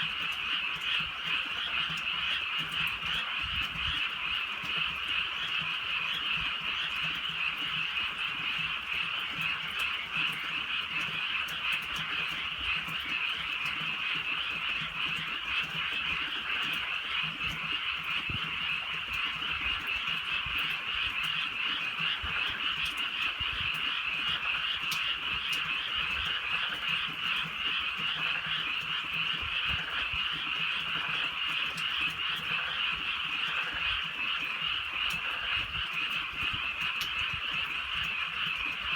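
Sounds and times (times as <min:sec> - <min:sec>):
frogs croaking in chorus: 0:00.0 - 0:38.9.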